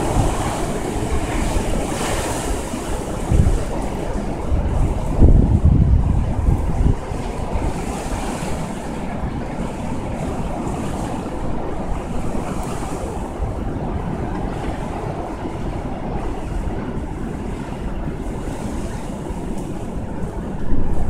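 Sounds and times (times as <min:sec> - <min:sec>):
storm wind blowing: 0:00.0 - 0:21.0
wind buffeting microphone: 0:00.0 - 0:21.0.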